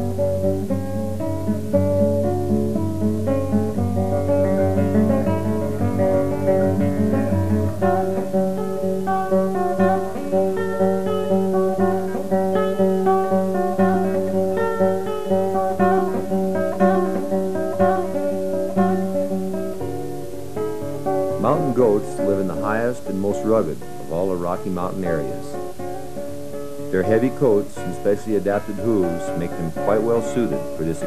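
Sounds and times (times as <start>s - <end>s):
acoustic guitar music: 0.0s - 31.0s.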